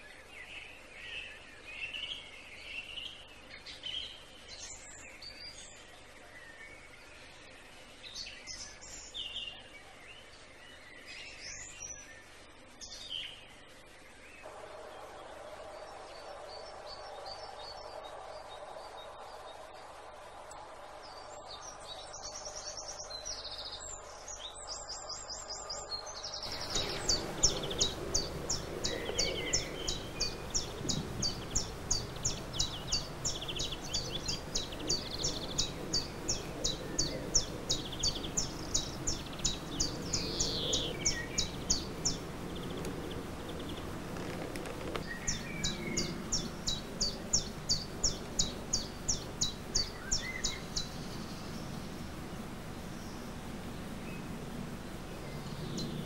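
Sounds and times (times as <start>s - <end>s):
birds singing: 0.0s - 56.0s
outdoor background noise: 0.0s - 56.0s.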